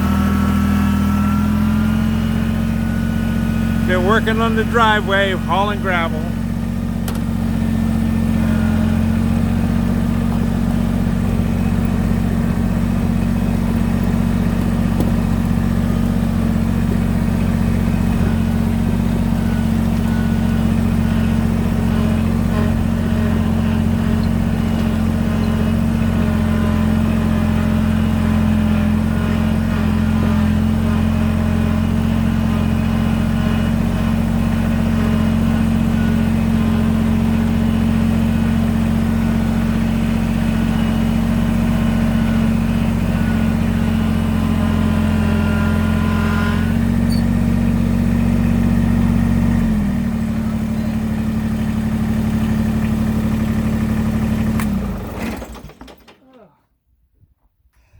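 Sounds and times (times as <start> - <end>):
tractor diesel engine running: 0.0 - 55.8.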